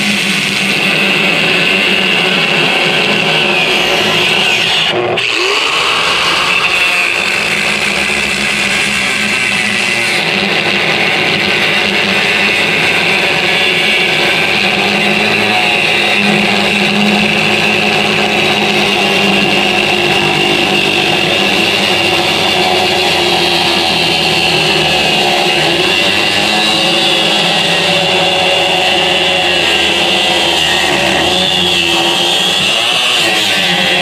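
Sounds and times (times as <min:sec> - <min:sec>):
angle grinder cutting metal: 0:00.0 - 0:34.0.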